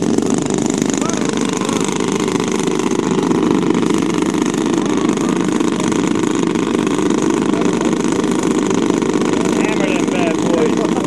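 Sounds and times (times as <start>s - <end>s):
model plane engines running: 0.0s - 11.0s.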